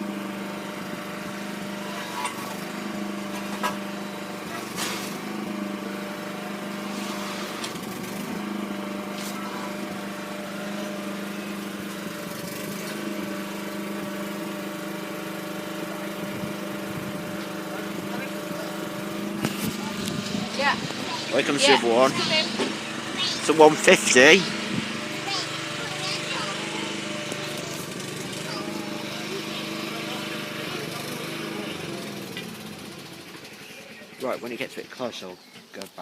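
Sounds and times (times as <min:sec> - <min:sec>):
engine idling: 0:00.0 - 0:35.2.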